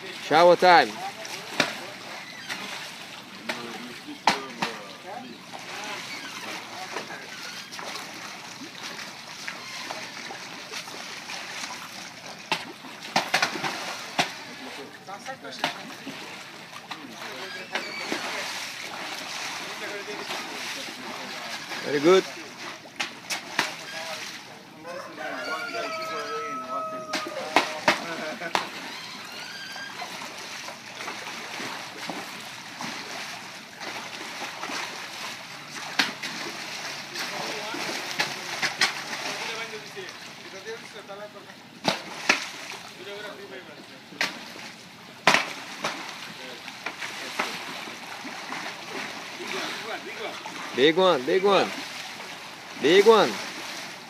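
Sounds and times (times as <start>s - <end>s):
sharp loud splashes: 0.0s - 4.9s, 5.5s - 14.8s, 15.5s - 24.5s, 26.5s - 29.1s, 29.8s - 40.3s, 41.8s - 43.0s, 44.2s - 54.0s
fish thrashing in water: 0.0s - 40.9s, 41.8s - 43.0s, 44.2s - 54.0s.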